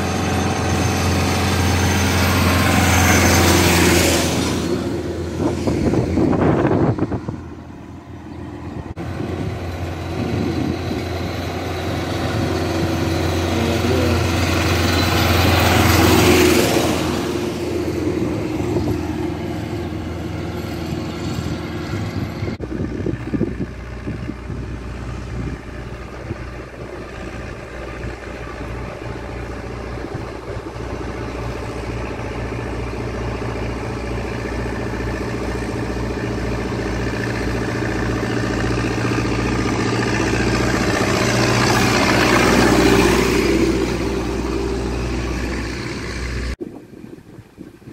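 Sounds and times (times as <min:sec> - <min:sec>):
road noise: 0:00.0 - 0:47.9
tractor engines running: 0:00.0 - 0:47.9.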